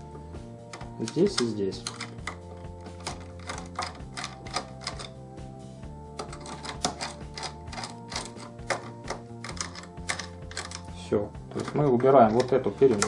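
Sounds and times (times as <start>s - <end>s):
background music with held chords: 0.0s - 13.0s
screwdriver clicking on screws: 0.7s - 5.1s, 6.2s - 10.9s, 11.5s - 13.0s.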